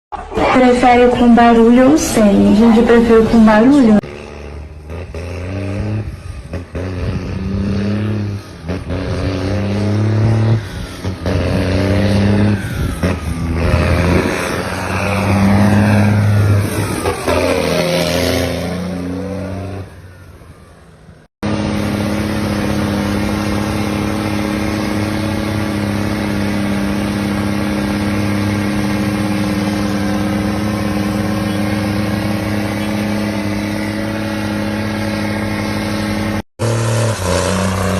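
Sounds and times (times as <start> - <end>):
steady engine note: 0.1 - 37.9
engines revving through loud exhausts: 0.2 - 37.9.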